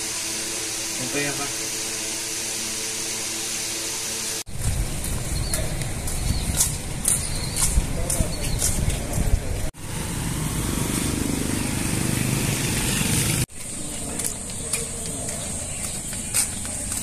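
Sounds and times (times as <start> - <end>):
street noise rushing: 0.0 - 17.0.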